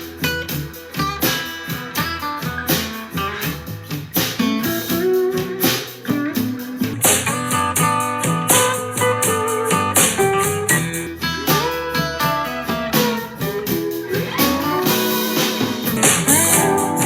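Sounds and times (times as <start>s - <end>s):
blues guitar music from a speaker: 0.0s - 17.0s.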